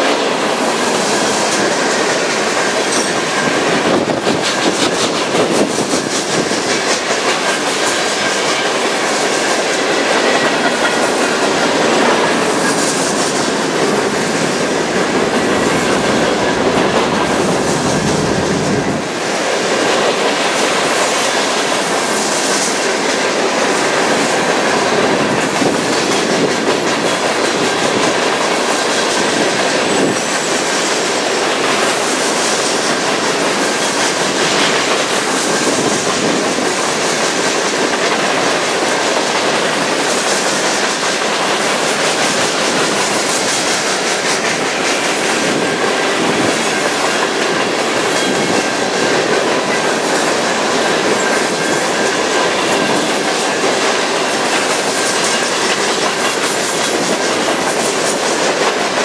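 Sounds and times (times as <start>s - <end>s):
freight train rumbling past: 0.0s - 59.0s
wheels clacking over rail joints: 0.0s - 59.0s.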